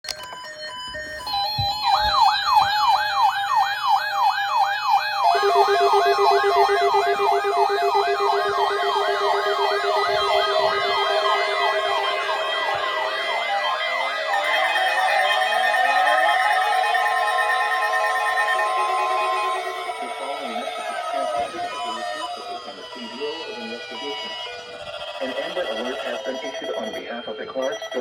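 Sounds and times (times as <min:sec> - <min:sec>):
electronic yelp siren: 0:00.1 - 0:28.0.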